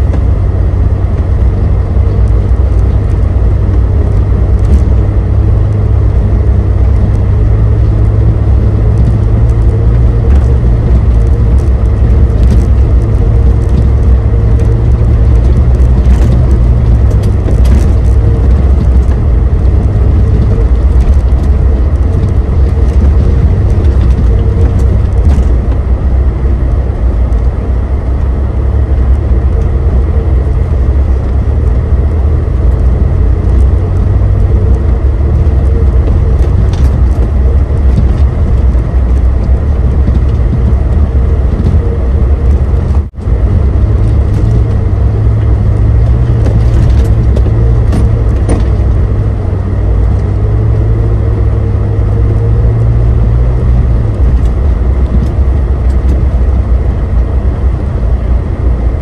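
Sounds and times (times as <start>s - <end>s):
engine low rumble: 0.0s - 59.0s.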